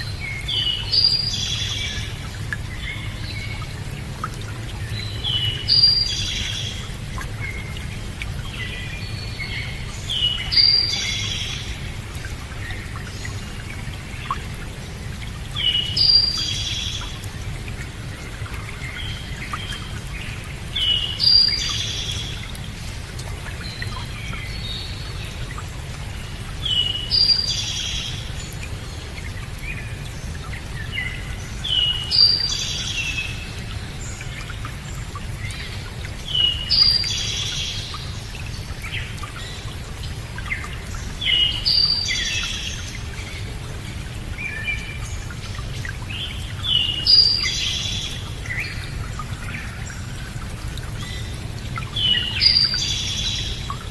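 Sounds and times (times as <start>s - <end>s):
running water: 0.0s - 53.9s
songbird singing: 0.0s - 53.9s.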